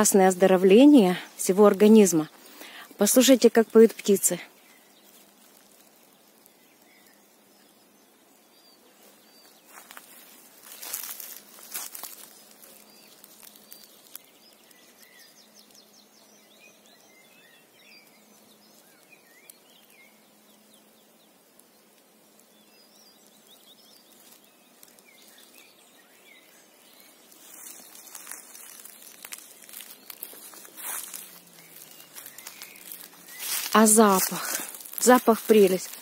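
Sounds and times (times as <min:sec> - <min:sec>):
birds chirping and trilling: 0:00.0 - 0:36.0.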